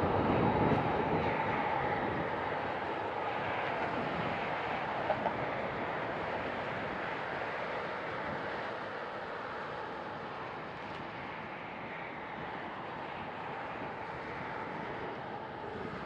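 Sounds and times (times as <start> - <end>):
distant jet engines roaring: 0.0 - 16.0.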